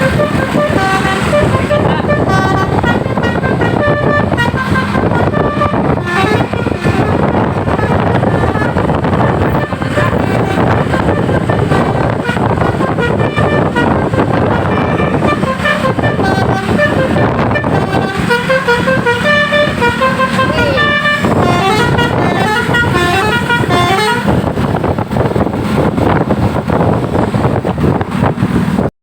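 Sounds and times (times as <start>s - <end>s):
multi-tone bus horn melody: 0.0s - 28.6s.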